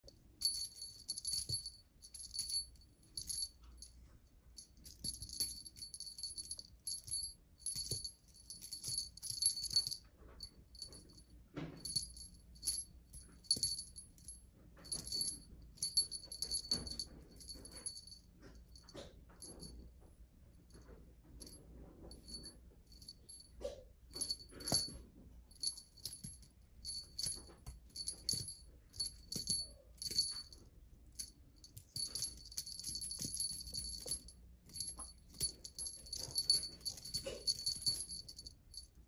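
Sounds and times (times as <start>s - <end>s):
small jingle bell ringing: 0.2s - 20.0s, 20.6s - 39.0s.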